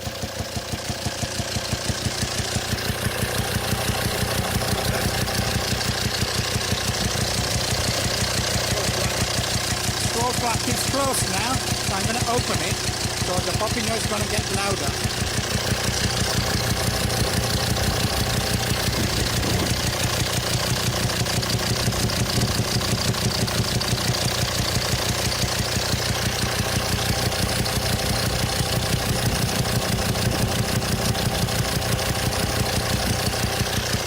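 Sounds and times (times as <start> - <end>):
diesel engine idling: 0.0 - 34.0
popping through engine intake: 2.8 - 34.0.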